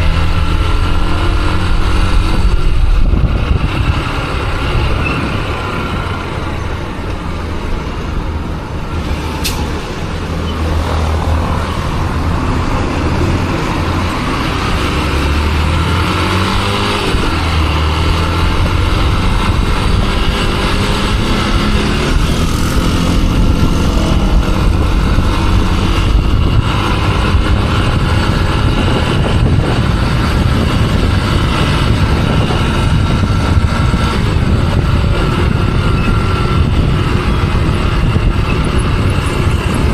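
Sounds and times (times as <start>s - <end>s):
motorcycle engine accelerating: 0.0s - 7.9s, 10.0s - 39.9s
road and wind noise: 0.0s - 39.9s.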